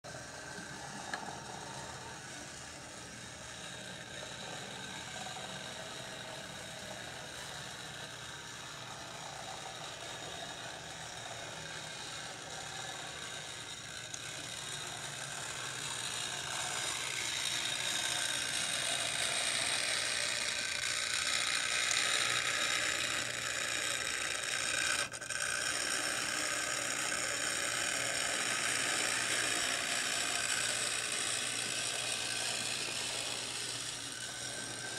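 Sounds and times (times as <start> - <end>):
model train motor whirring: 0.0 - 34.9
light mechanical rattle: 0.1 - 34.9.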